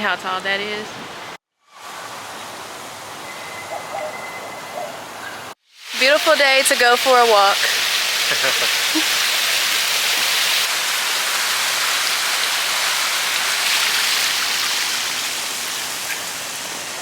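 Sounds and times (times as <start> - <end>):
water feature falling water: 0.0 - 4.0, 5.1 - 17.0.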